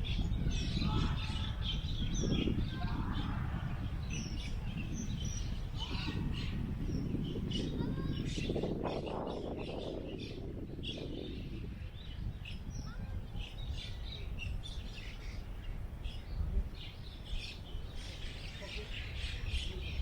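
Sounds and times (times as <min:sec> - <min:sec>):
low rumble of wind: 0:00.0 - 0:20.0
small birds chirping: 0:00.0 - 0:20.0.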